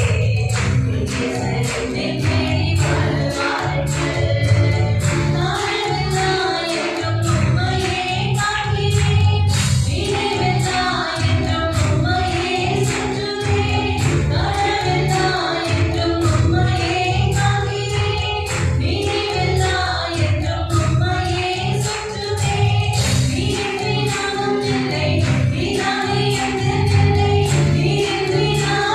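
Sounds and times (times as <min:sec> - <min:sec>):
group singing worship song: 0:00.0 - 0:28.9
instrumental accompaniment with beat: 0:00.0 - 0:28.9.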